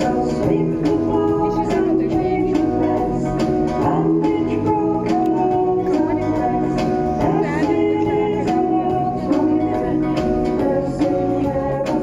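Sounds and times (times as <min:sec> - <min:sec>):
background music with steady beat: 0:00.0 - 0:12.0
person singing: 0:00.0 - 0:12.0
plucked guitar-like instruments: 0:00.0 - 0:12.0.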